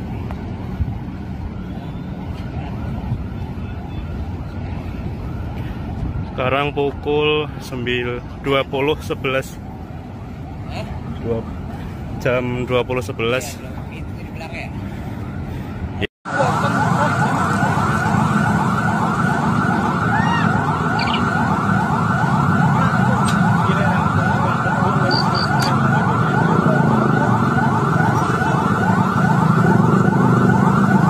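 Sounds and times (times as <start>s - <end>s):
emergency siren yelping: 0.0s - 13.8s, 16.3s - 31.0s
motorbikes: 0.0s - 31.0s
street traffic rumble: 0.0s - 31.0s.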